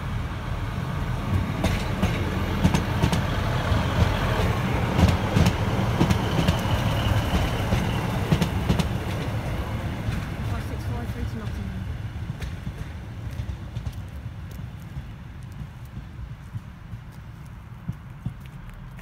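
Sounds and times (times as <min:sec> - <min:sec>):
diesel train engine rumble: 0:00.0 - 0:19.0.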